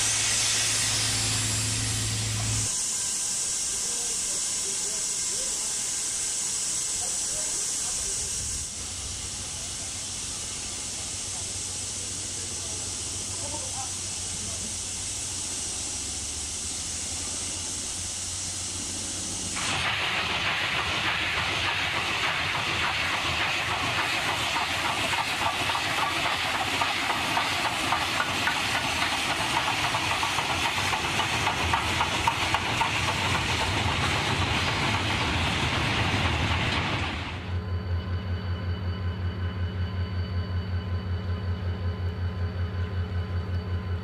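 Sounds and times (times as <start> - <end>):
loud steam hiss: 0.0 - 37.5.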